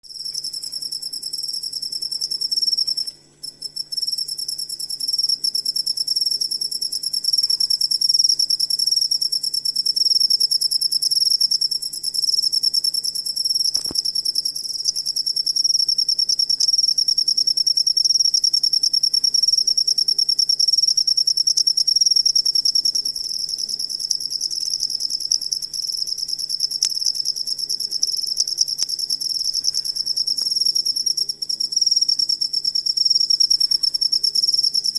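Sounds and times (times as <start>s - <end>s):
cricket trilling: 0.1s - 34.9s.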